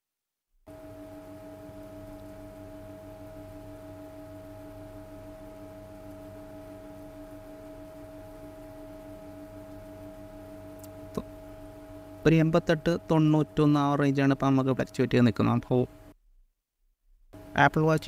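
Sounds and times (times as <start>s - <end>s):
steady hum of held tones: 0.7s - 16.2s, 17.3s - 18.0s.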